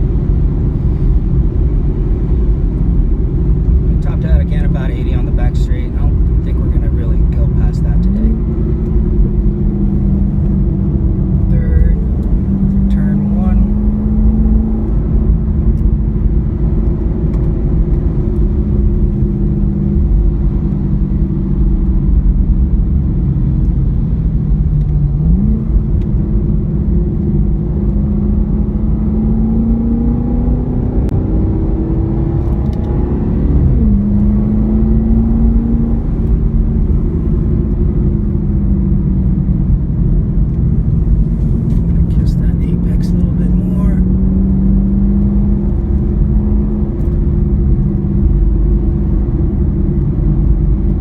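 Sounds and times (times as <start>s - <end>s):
car engine accelerating and shifting: 0.0s - 51.0s
road noise: 0.0s - 51.0s.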